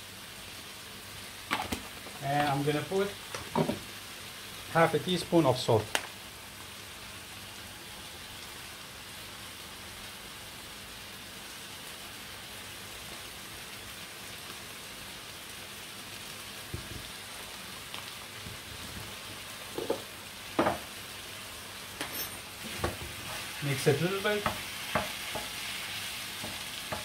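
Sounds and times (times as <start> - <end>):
chicken sizzling in a frying pan: 0.0 - 27.0.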